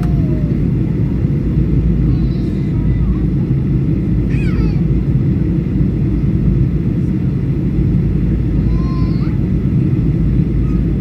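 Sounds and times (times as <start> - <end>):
airplane engines rumbling in cabin: 0.0 - 11.0.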